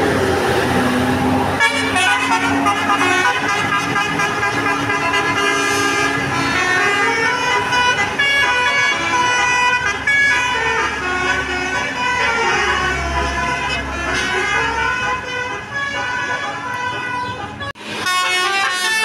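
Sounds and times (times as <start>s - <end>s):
multi-tone bus horn playing tune: 1.5s - 19.0s.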